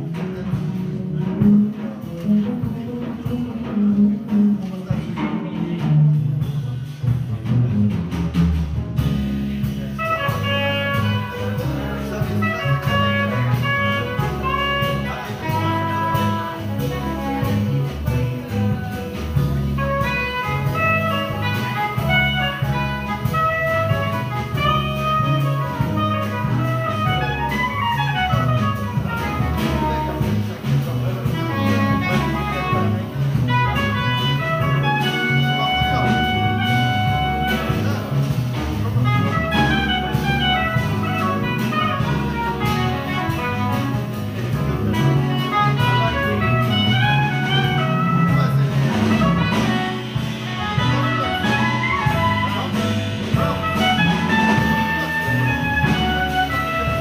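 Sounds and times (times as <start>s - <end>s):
jazz band playing: 0.0s - 57.0s.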